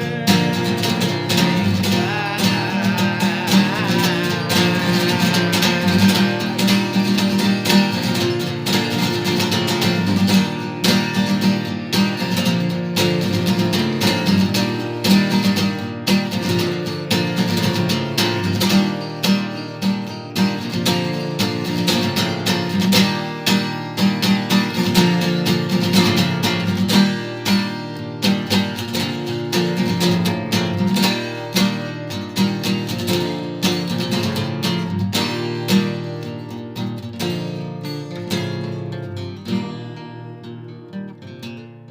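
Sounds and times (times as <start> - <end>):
acoustic guitar strumming: 0.0 - 41.9.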